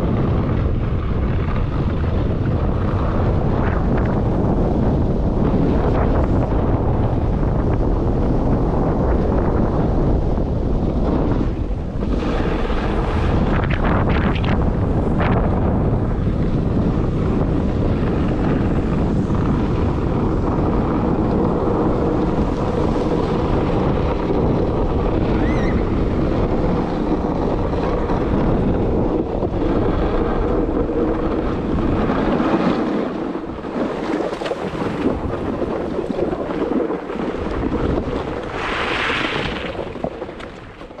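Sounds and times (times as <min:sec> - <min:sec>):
skis running over snow: 0:00.0 - 0:41.0
wind buffeting microphone: 0:00.0 - 0:41.0
skis scraping snow: 0:00.2 - 0:41.0.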